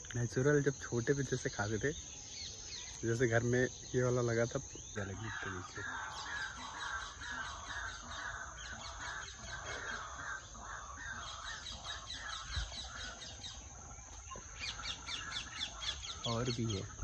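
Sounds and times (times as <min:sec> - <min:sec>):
birds calling in repeated notes: 0:00.0 - 0:17.0
high insect drone: 0:00.0 - 0:17.0.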